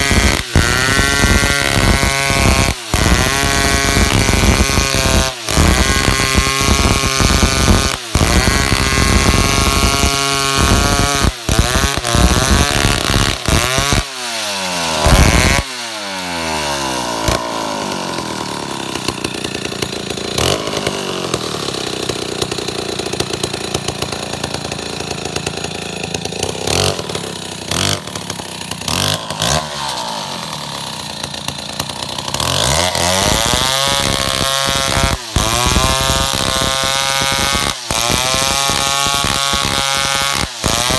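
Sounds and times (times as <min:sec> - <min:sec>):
chainsaw sawing through a log: 0:00.0 - 0:40.9.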